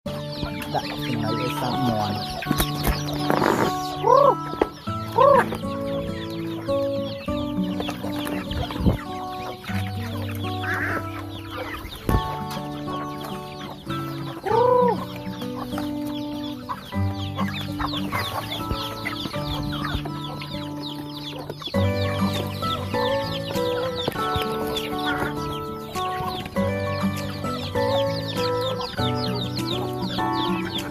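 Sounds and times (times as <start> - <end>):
background music: 0.1 - 30.9
chickens clucking: 0.1 - 30.9.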